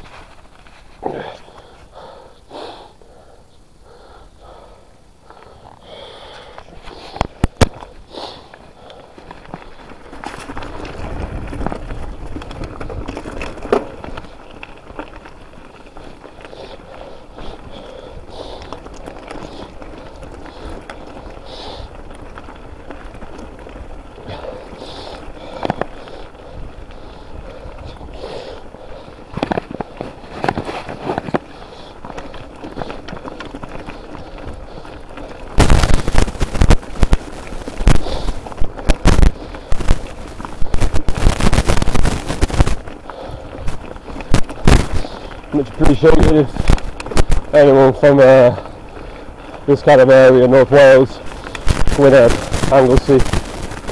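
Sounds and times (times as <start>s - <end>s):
loud crackling rush: 0.0s - 53.9s
bike rumbling over stony track: 5.2s - 53.9s.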